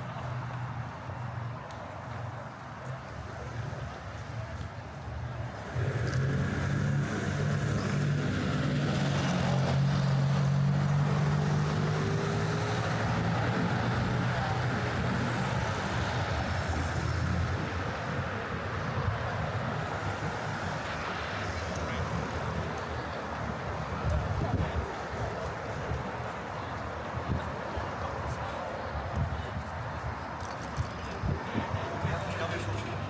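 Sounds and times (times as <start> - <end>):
city street noise: 0.0 - 33.0.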